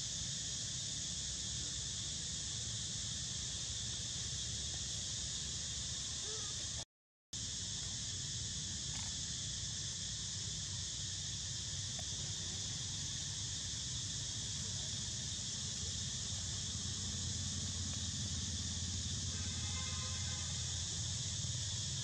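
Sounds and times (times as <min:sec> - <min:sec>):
high-pitched insect chorus: 0:00.0 - 0:06.8, 0:07.4 - 0:22.0.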